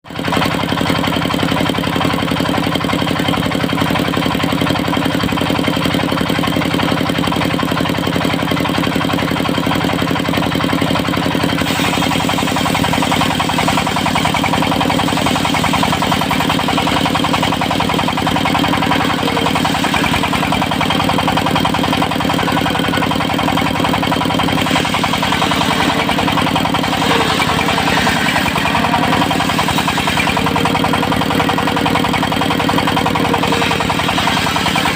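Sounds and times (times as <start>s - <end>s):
small engine running steadily: 0.0s - 34.9s.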